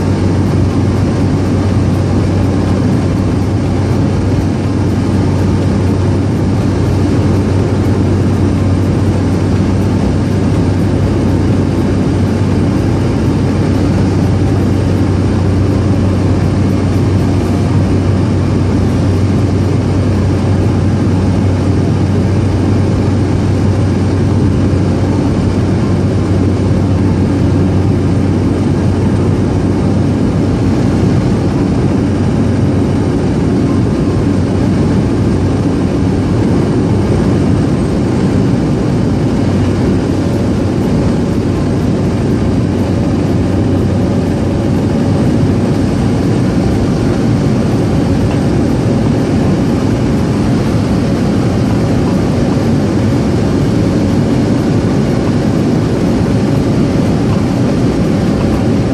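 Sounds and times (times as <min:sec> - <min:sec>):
propeller aircraft engine drone: 0:00.0 - 0:58.9.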